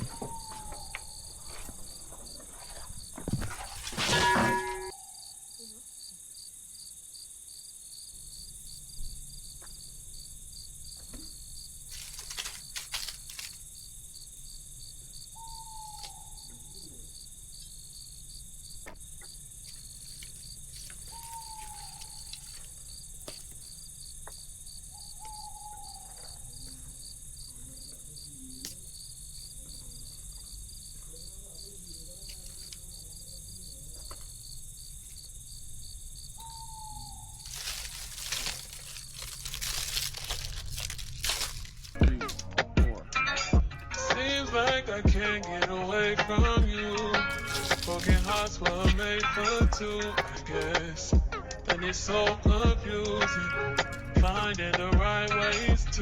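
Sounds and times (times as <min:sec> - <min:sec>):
high insect hiss: 0:00.0 - 0:42.5, 0:44.2 - 0:51.2
crickets chirping: 0:00.0 - 0:56.0.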